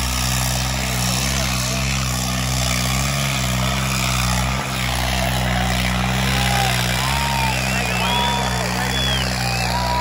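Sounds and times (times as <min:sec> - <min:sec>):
diesel tractor engine running: 0:00.0 - 0:10.0.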